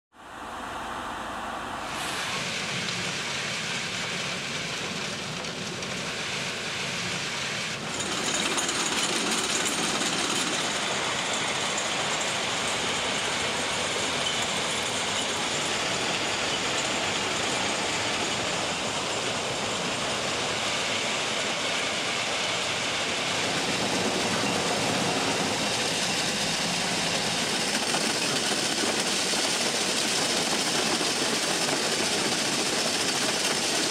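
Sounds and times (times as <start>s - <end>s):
track machine engines working: 1.8s - 33.9s.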